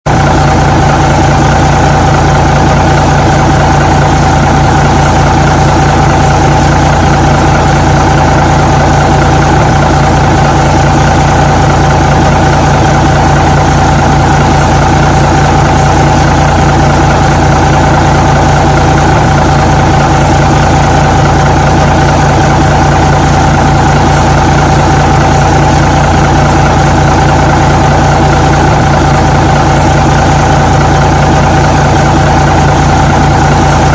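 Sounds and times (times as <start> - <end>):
truck engine idling: 0.1 - 33.9.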